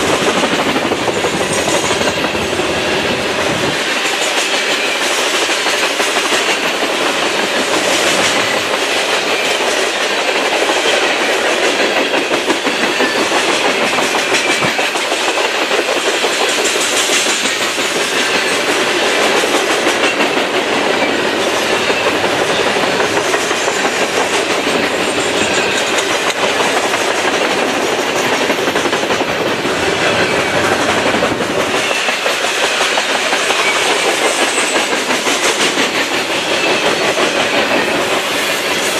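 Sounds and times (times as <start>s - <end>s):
train wheels clicking and rumbling: 0.0s - 38.9s.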